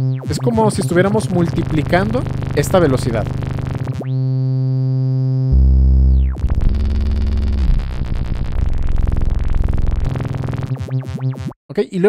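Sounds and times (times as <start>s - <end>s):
buzzy synth tone with phaser: 0.0s - 4.4s, 5.3s - 11.6s.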